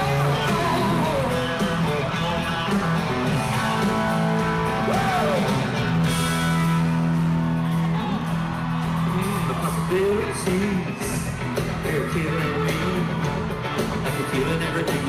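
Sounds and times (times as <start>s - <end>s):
country-rock band playing: 0.0s - 15.0s.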